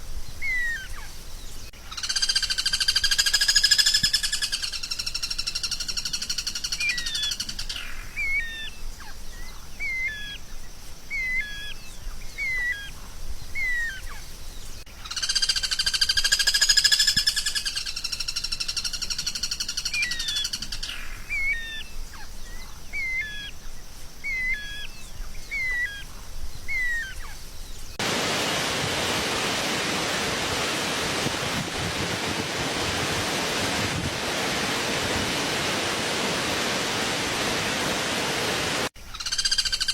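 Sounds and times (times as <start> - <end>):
steady hiss: 0.0 - 39.2
songbird buzzy trill and chirps: 0.0 - 39.9.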